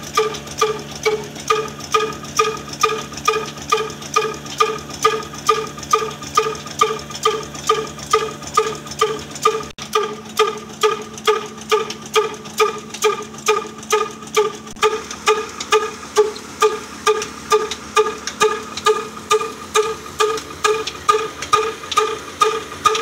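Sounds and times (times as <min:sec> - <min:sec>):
diesel engine exhaust beat: 0:00.0 - 0:23.0.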